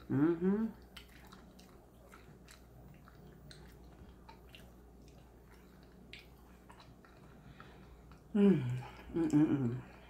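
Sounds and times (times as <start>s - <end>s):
quiet chewing: 0.0s - 10.0s
wet clicks of eating by hand: 0.8s - 9.5s.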